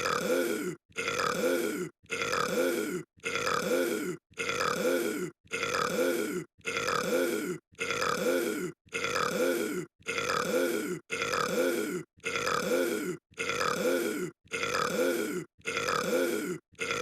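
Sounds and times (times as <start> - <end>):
drawn-out burp: 0.0 - 17.0.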